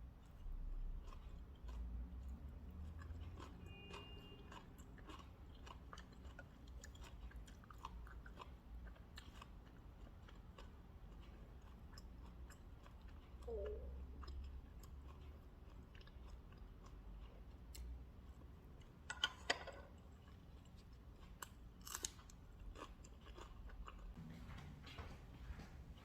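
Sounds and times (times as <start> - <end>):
person chewing food: 0.0 - 24.3.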